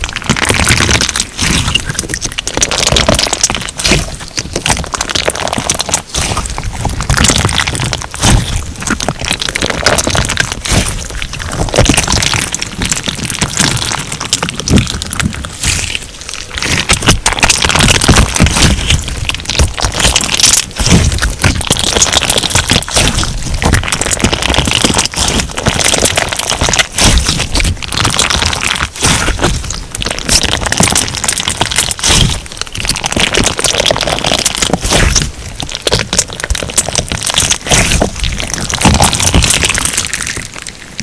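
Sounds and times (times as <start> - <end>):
slime crackling and popping: 0.0 - 41.0.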